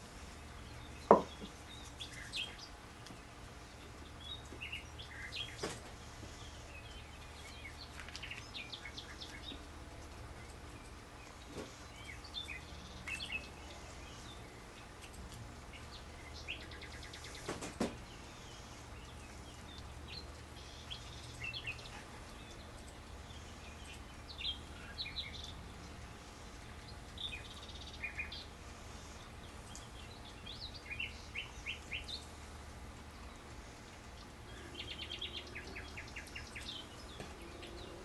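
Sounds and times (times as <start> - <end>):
small birds chirping: 0.0 - 38.0
steady low hum: 0.0 - 38.0.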